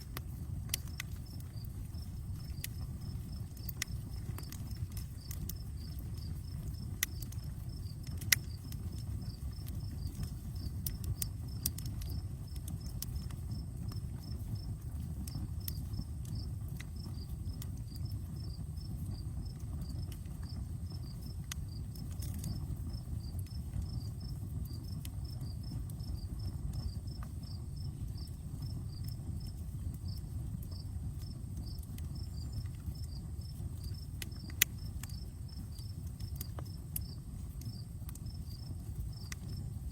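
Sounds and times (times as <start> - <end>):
campfire crackles and pops: 0.0 - 39.9
campfire rushing: 0.0 - 39.9
cricket chirping: 0.1 - 39.9.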